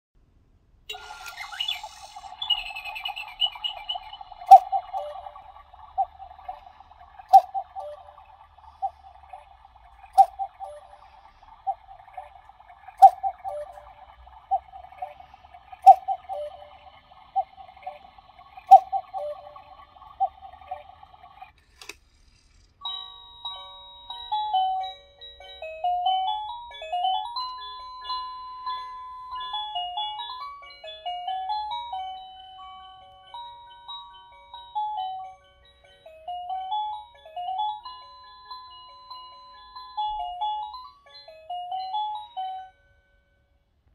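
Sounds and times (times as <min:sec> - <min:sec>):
cuckoo clock call: 0:00.9 - 0:21.6, 0:22.8 - 0:42.7
electronic clock melody: 0:00.9 - 0:21.6, 0:22.8 - 0:43.2.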